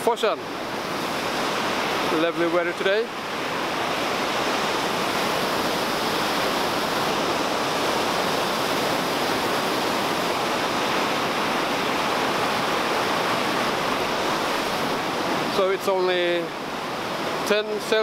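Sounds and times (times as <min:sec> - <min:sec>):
white water rushing over rocks: 0:00.0 - 0:18.0.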